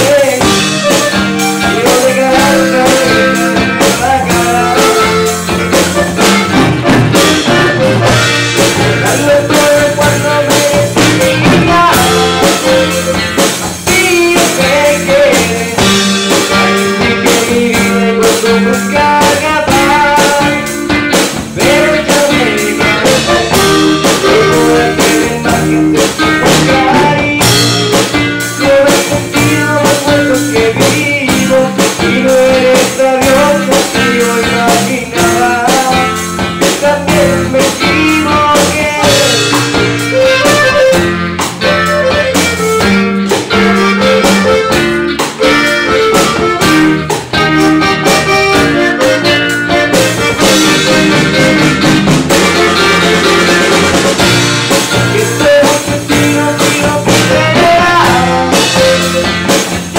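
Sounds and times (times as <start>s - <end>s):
band playing live: 0.0s - 59.9s
button accordion melody: 0.0s - 59.9s.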